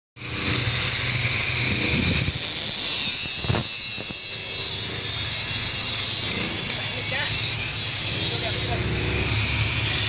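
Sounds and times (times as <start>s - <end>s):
machine drone with hiss: 0.2s - 10.0s.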